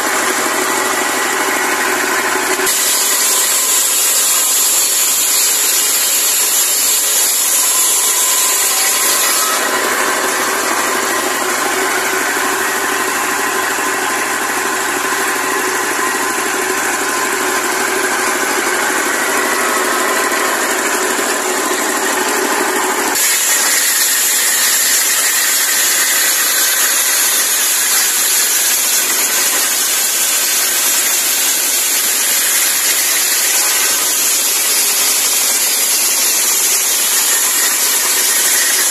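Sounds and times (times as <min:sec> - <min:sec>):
circular saw cutting log: 0:00.0 - 0:38.9
diesel engine running: 0:00.0 - 0:38.9.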